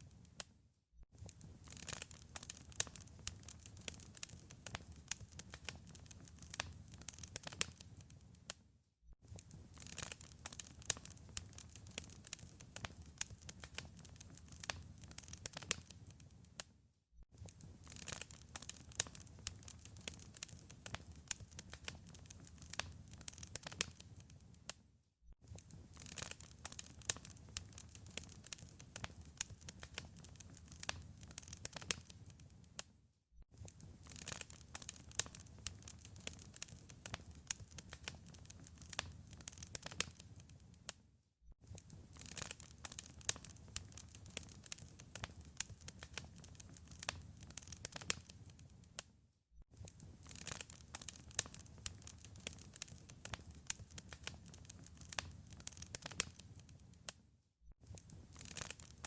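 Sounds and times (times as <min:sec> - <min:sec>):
wood fire crackling: 0:01.2 - 0:08.6, 0:09.3 - 0:16.7, 0:17.4 - 0:24.8, 0:25.5 - 0:32.9, 0:33.6 - 0:41.0, 0:41.6 - 0:49.1, 0:49.8 - 0:57.2, 0:57.8 - 0:59.0.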